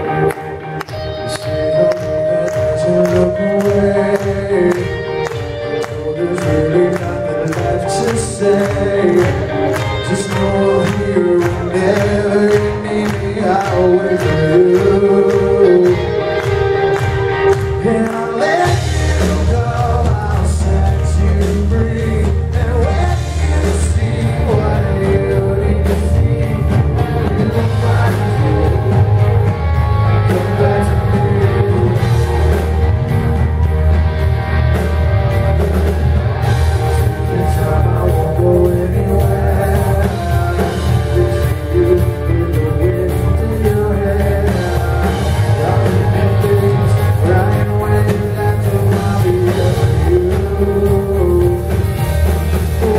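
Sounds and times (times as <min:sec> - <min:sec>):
man singing: 0:00.0 - 0:33.4, 0:36.4 - 0:52.9
live rock band playing: 0:00.0 - 0:52.9.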